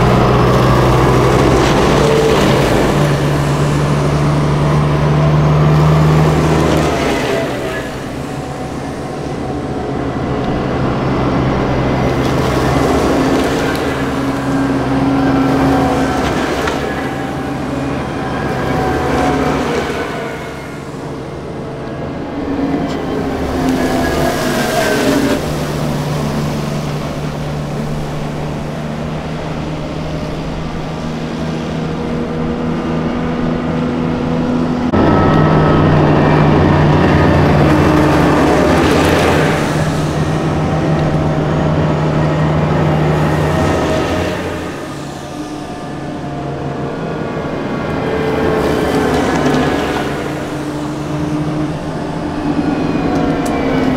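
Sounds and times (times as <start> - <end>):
diesel engines driving past: 0.0 - 53.9
tyre noise on road: 0.0 - 53.9.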